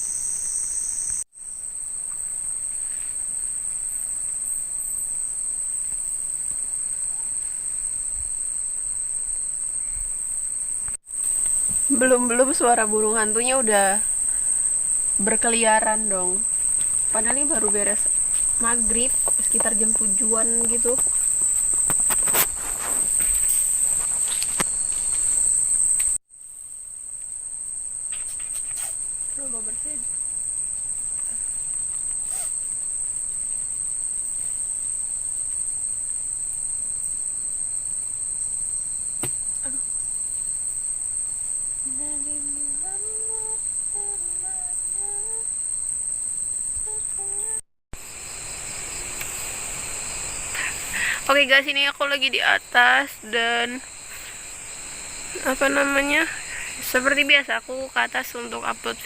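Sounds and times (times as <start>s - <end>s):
night insects chorus: 0.0s - 59.0s.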